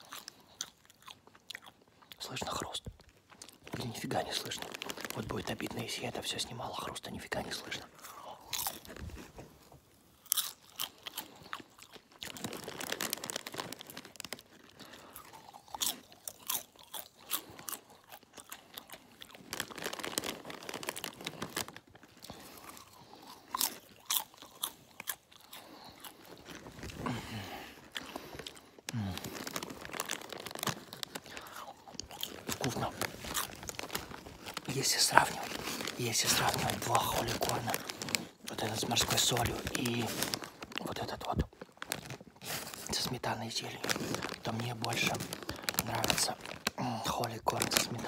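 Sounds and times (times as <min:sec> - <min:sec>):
popcorn chewing crunches: 0:00.0 - 0:48.0.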